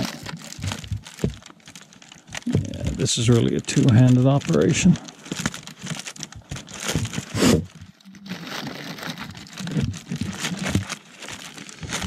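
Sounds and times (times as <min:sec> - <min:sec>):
tent fabric rustling and crackling: 0:00.0 - 0:12.0.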